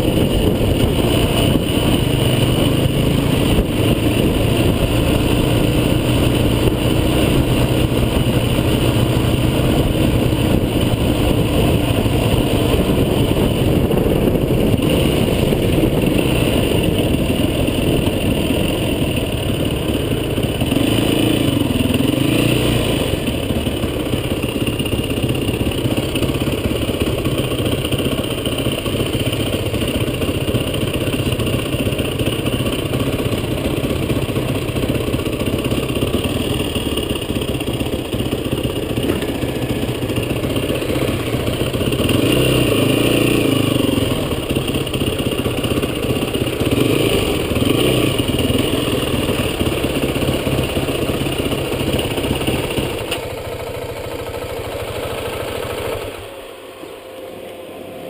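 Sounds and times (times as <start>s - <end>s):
off-road vehicle engine running: 0.0s - 56.7s.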